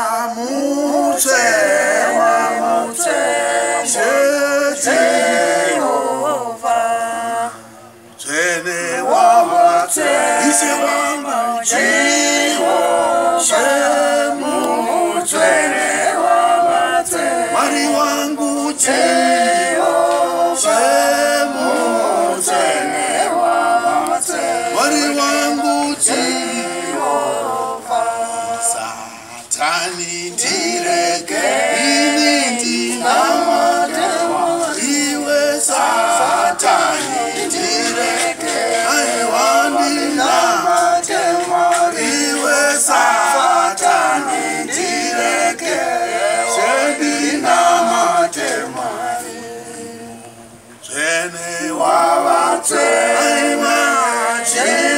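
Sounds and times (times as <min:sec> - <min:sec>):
group singing a hymn a cappella: 0:00.0 - 0:54.9.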